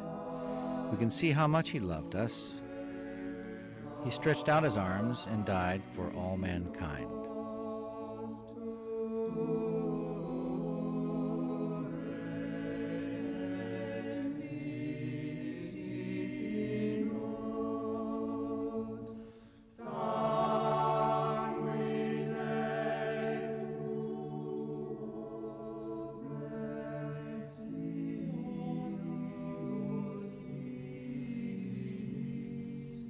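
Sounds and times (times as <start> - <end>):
choir singing sustained chords: 0.0 - 33.0.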